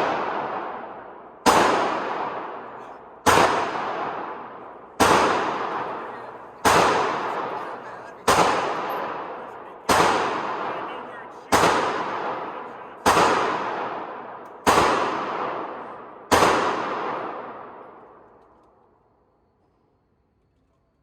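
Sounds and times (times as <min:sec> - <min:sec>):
pistol shots with echo: 0:00.0 - 0:18.4.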